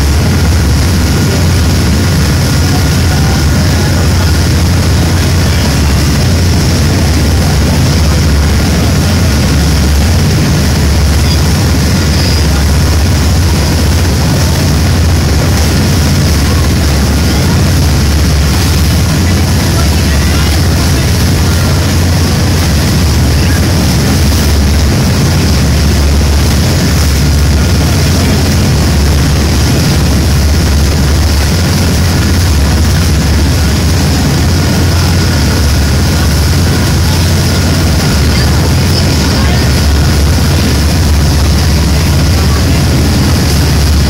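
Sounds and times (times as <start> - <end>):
boat engine drone: 0.0 - 44.0
churning wake rushing: 0.0 - 44.0.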